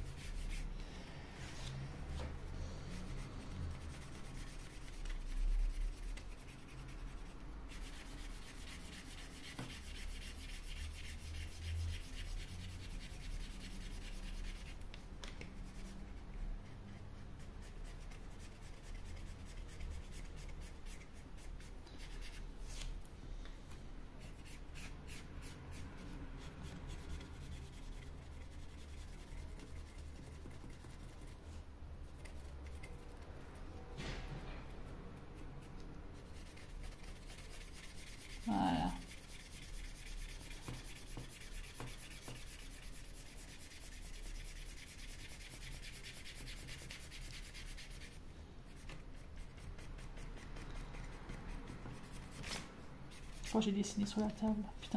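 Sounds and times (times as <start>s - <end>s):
marker scratching on wood: 2.9s - 22.9s, 24.2s - 33.3s, 35.2s - 54.9s.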